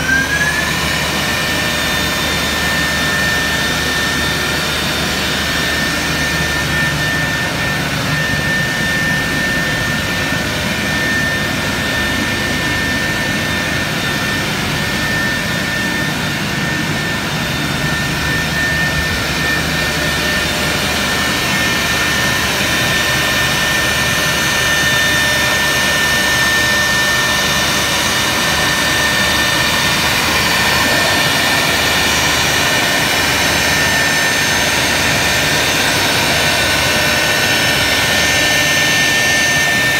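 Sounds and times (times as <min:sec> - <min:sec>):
cnc router spindle whine: 0:00.0 - 0:39.9.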